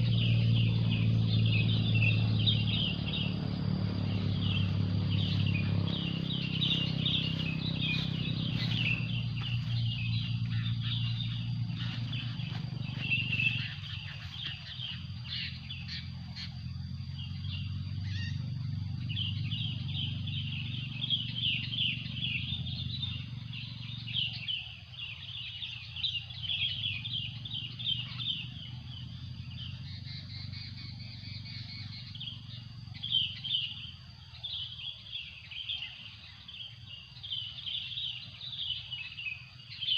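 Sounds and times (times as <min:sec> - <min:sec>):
low steady hum: 0:00.0 - 0:39.9
wild birds chirping: 0:00.0 - 0:39.9.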